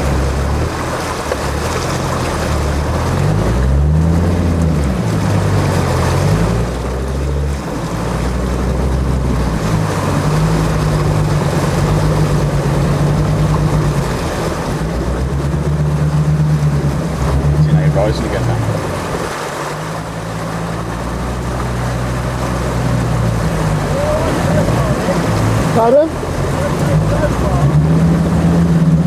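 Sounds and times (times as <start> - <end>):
diesel engine revving: 0.0 - 29.0
rushing floodwater: 0.0 - 29.0.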